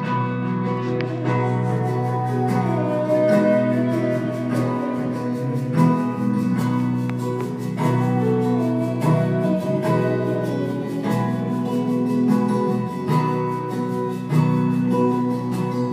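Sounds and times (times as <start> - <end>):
guitar background music: 0.0 - 15.9.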